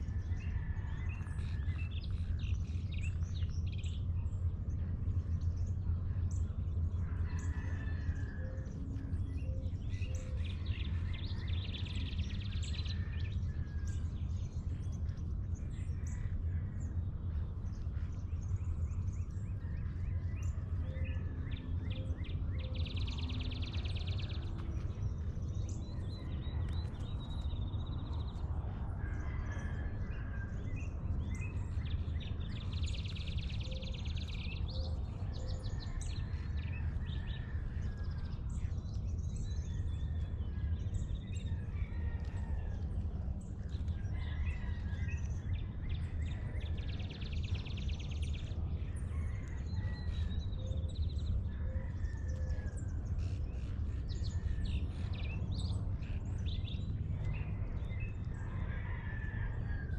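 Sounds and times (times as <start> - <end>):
low rumble: 0.0 - 58.8
birds calling and singing: 0.0 - 59.9.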